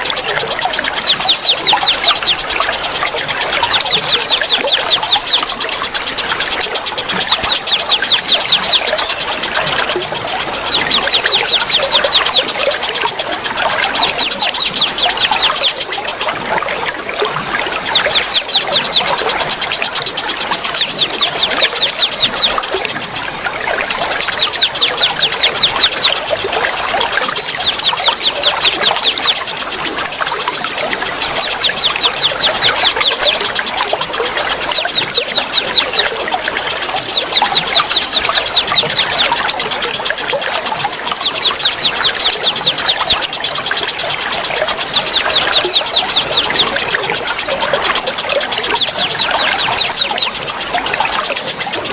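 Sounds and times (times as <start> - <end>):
songbirds chattering: 0.0 - 51.9
water trickling: 0.0 - 51.9.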